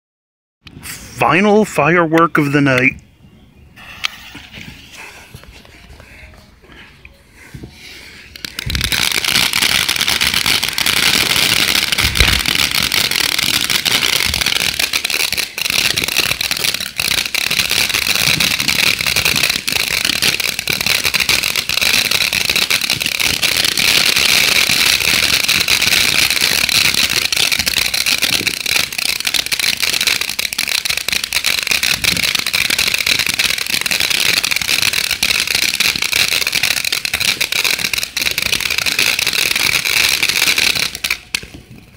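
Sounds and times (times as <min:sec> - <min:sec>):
firework fountain hissing and crackling: 0:03.8 - 0:05.6, 0:07.8 - 0:41.9.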